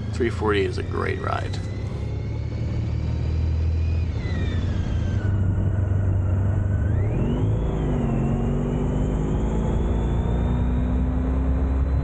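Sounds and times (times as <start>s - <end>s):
motorcycle engine revving: 1.2s - 12.0s.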